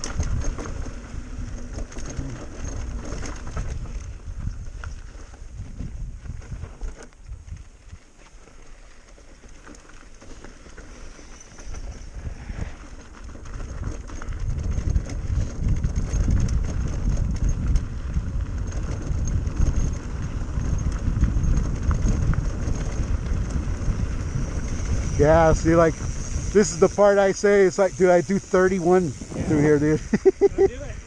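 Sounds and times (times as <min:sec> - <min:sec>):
wind rushing over microphone: 0:00.0 - 0:08.0, 0:11.6 - 0:31.0
bike tyres rumbling on trail: 0:00.0 - 0:31.0.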